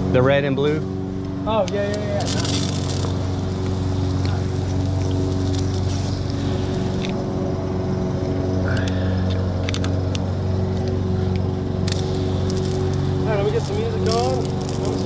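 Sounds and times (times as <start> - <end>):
gas engine running: 0.0 - 15.0.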